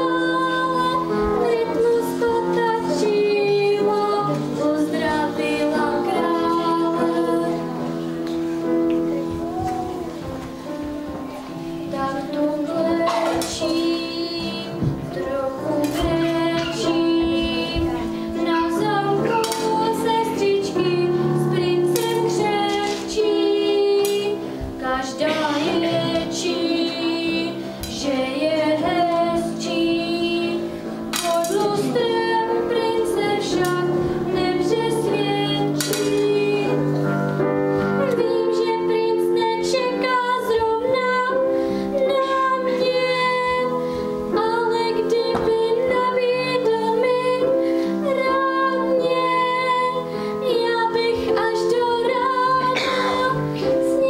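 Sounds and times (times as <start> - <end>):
girl singing a slow melody: 0.0 - 54.0
instrumental accompaniment: 0.0 - 54.0.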